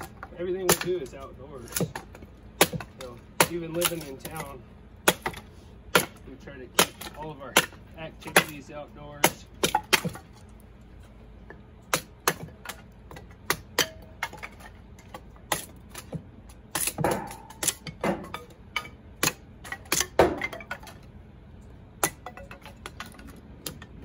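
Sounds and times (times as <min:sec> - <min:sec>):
hatchet chopping kindling: 0:00.0 - 0:10.6, 0:11.4 - 0:21.1, 0:22.0 - 0:24.0.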